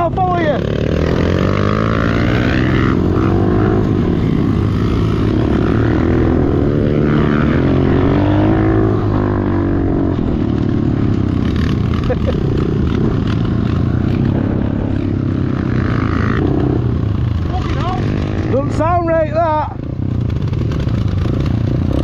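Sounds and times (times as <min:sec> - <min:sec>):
pit bike engine revving: 0:00.0 - 0:22.0.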